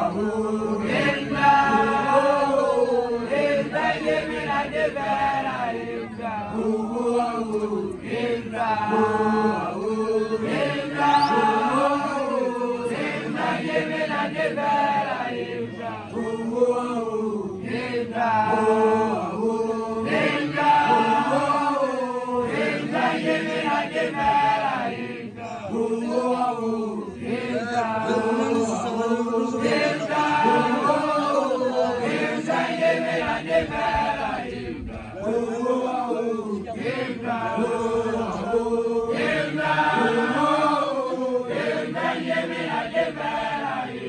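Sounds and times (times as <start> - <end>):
men chanting a song: 0.0 - 44.0.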